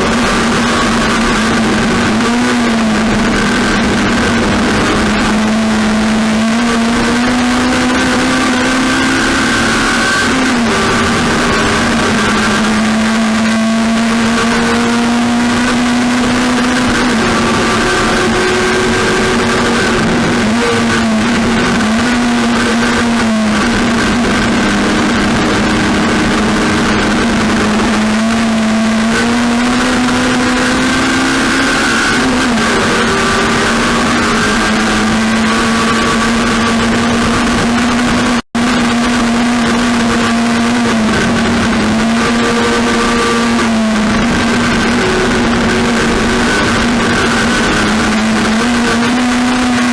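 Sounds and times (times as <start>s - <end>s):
heavy rushing noise: 0.0s - 49.9s
race car engine revving: 0.0s - 49.9s.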